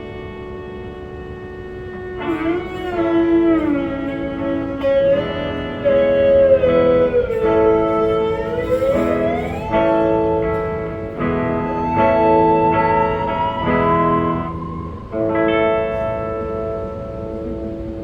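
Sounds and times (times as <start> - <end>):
electric guitar bending notes: 0.0 - 18.0.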